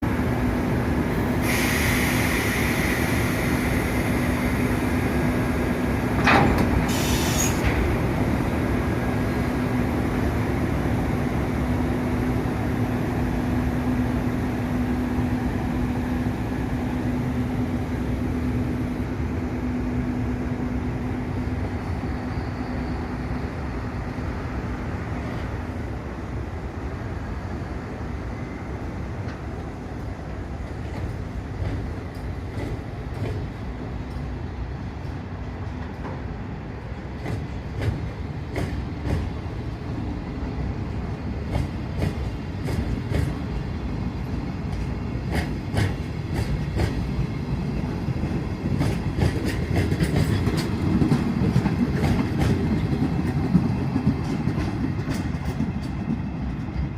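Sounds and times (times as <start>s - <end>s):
locomotive hum: 0.0s - 56.9s
train wheels rumbling on track: 0.0s - 56.9s.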